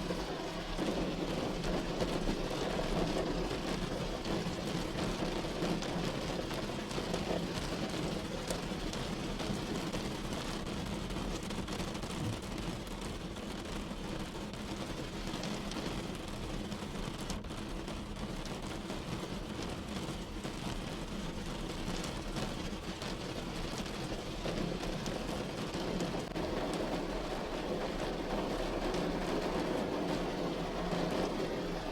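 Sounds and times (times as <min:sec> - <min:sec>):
rain falling on a car: 0:00.0 - 0:31.9.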